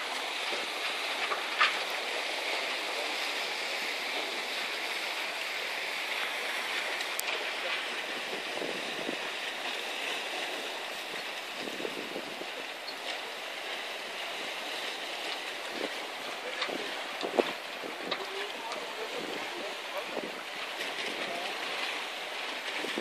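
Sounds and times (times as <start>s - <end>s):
sea water splashing and lapping: 0.0s - 23.0s.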